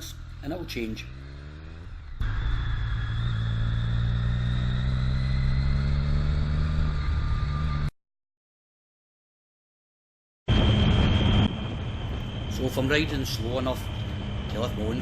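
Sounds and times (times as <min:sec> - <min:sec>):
motorcycle engine running: 0:00.0 - 0:07.9, 0:10.6 - 0:15.0.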